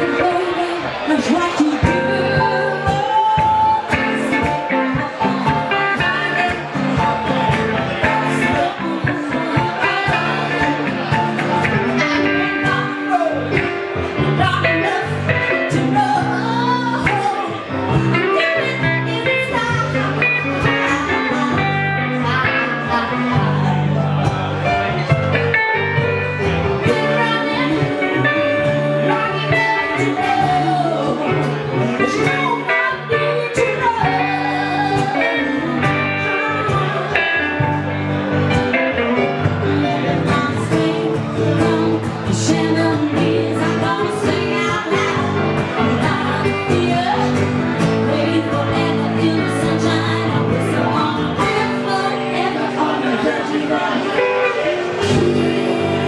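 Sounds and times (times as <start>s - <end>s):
woman singing: 0.0s - 23.8s, 26.8s - 37.9s, 38.9s - 56.0s
blues band playing: 0.0s - 56.0s.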